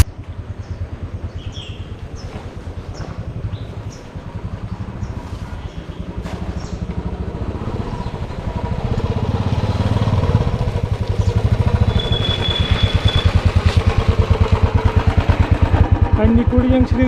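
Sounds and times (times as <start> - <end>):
motorcycle engine thumping: 0.0 - 17.0.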